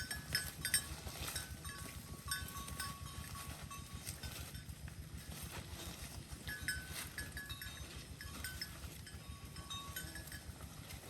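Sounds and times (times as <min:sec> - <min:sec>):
cattle chewing hay: 0:00.0 - 0:11.0.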